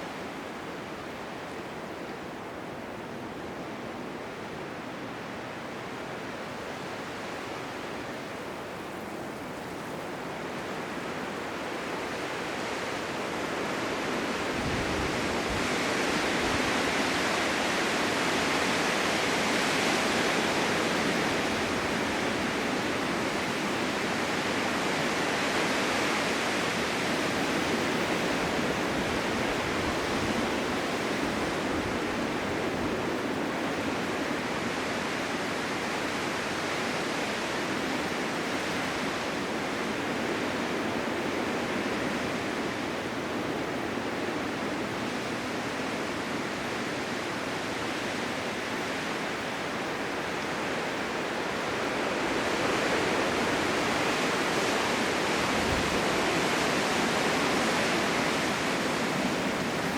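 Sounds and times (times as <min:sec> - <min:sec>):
blizzard wind rushing: 0:05.4 - 0:59.9.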